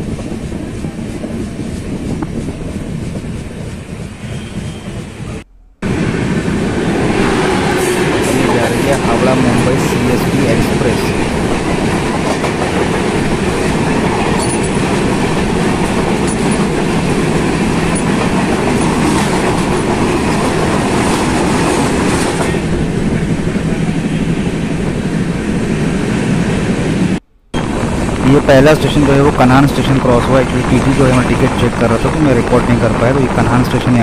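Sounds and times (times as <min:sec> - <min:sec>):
passenger train running: 0:00.0 - 0:34.0
passing train coaches rushing: 0:00.0 - 0:34.0.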